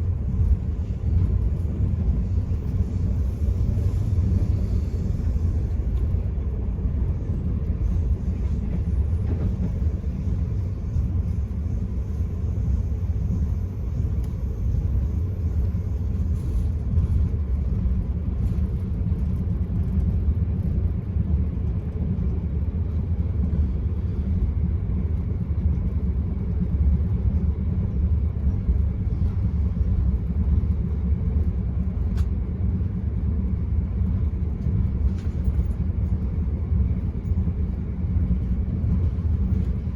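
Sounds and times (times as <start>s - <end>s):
train rumbling from inside: 0.0s - 39.9s.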